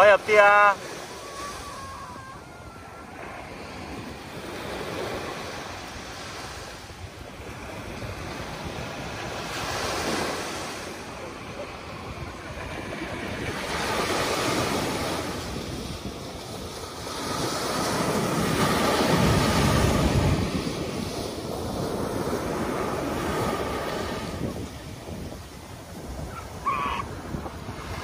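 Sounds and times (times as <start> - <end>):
ocean surf breaking: 0.0 - 28.0
wind buffeting microphone: 0.8 - 28.0.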